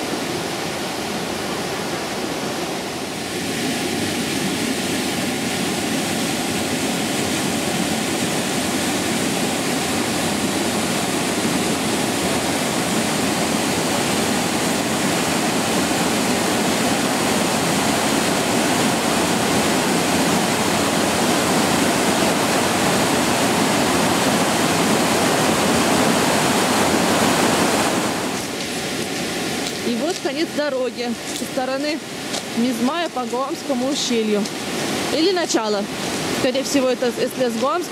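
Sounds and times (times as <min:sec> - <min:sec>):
fast-flowing water rushing: 0:00.0 - 0:37.9.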